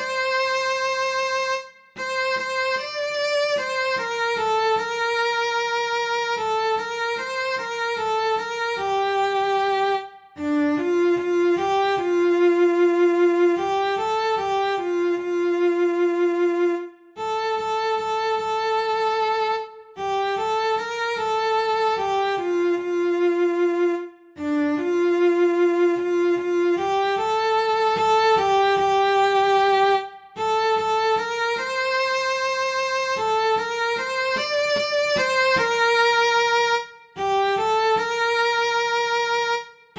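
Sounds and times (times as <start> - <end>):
bowed cello melody: 0.0 - 39.9.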